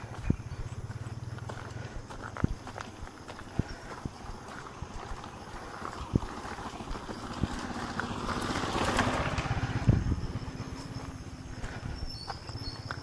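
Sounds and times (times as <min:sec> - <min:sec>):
vehicle engine passing: 0:00.0 - 0:03.2, 0:04.2 - 0:13.0
footsteps on trail: 0:00.0 - 0:13.0.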